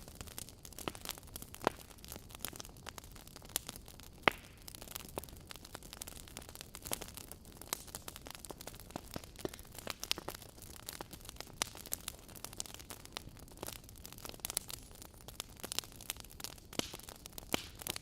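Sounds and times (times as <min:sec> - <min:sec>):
faint steady hiss: 0:00.0 - 0:18.0
wood fire crackling: 0:00.0 - 0:18.0.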